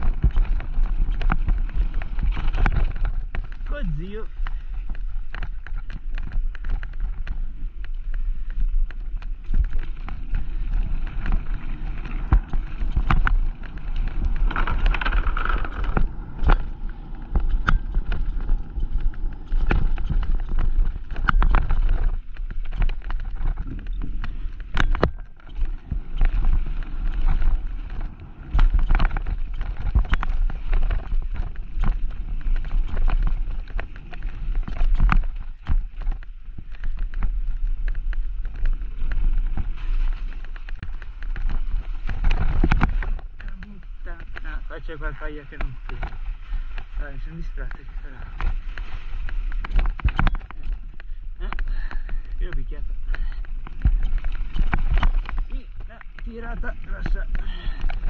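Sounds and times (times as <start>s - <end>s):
bike frame and chain rattling: 0.0s - 58.0s
bike tyres rumbling on dirt: 0.0s - 58.0s
wind on microphone: 0.0s - 58.0s.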